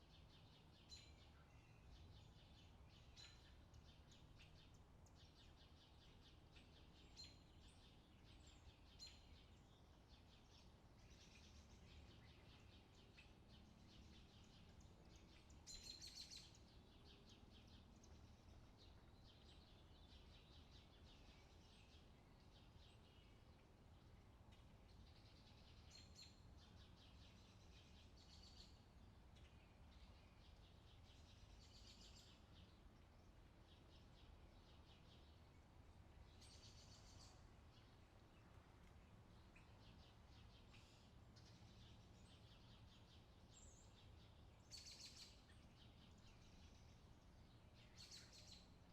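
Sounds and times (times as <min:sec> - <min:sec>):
small birds chirping and trilling: 0:00.0 - 0:48.9.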